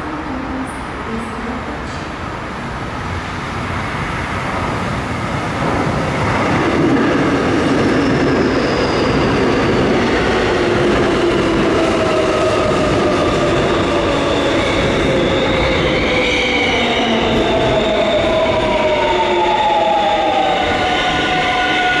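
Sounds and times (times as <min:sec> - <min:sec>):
subway train braking: 0:00.0 - 0:22.0.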